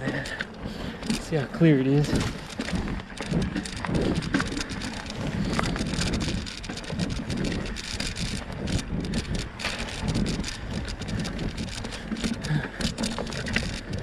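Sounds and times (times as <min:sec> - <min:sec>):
bike tyres crackling over leaves: 0:00.0 - 0:14.0.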